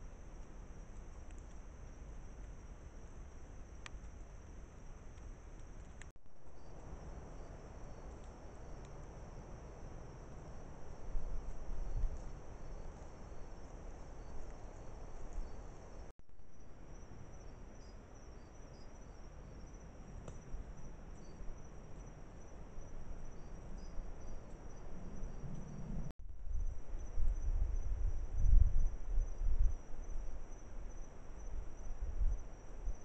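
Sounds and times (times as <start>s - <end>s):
crickets trilling: 0.1s - 33.0s.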